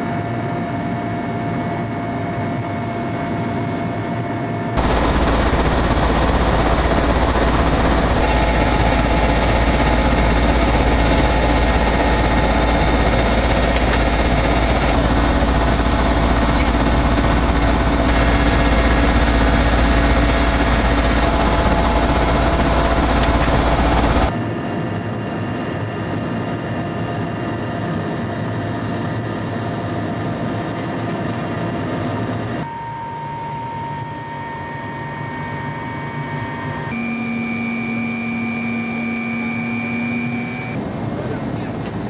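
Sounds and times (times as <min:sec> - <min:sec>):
helicopter engine and rotor noise: 0:00.0 - 0:42.0.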